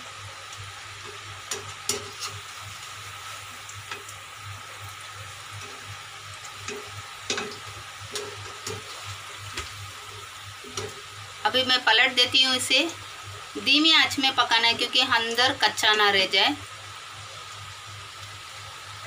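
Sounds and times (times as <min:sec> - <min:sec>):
deep-frying sizzle: 0:00.0 - 0:19.0.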